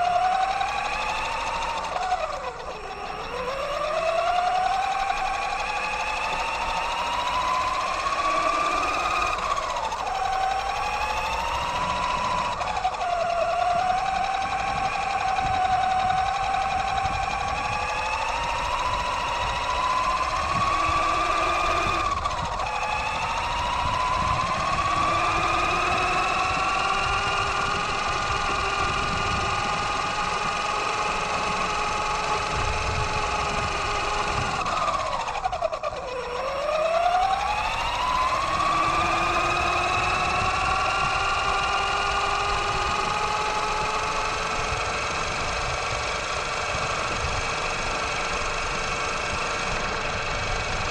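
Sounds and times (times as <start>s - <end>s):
rc truck motor whining: 0.0s - 50.9s.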